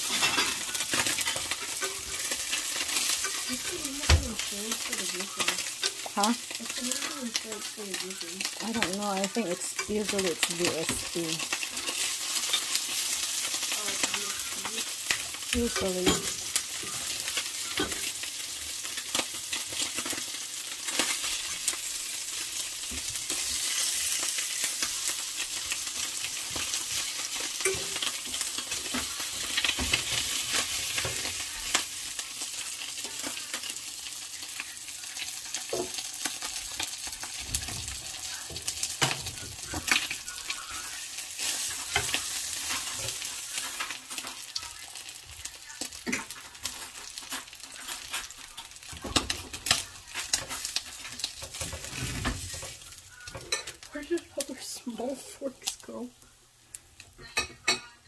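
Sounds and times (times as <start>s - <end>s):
oil sizzling in a frying pan: 0.0s - 58.0s.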